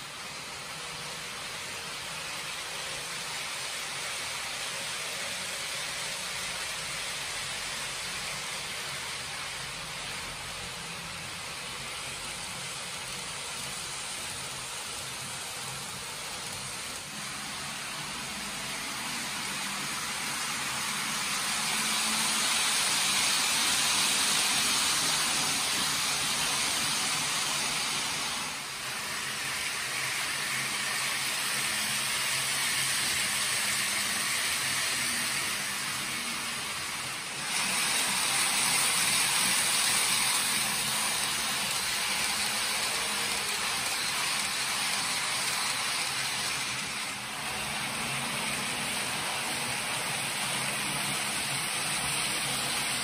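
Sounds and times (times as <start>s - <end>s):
model trains rumbling on track: 0.0s - 53.0s.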